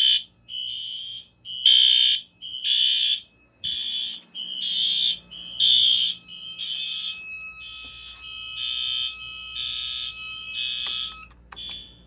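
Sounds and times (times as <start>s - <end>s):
fire alarm horn blasts: 0.0s - 12.0s.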